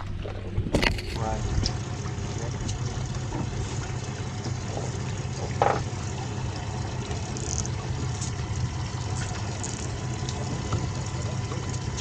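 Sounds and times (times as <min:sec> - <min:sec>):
boat engine idling: 0:01.2 - 0:12.0.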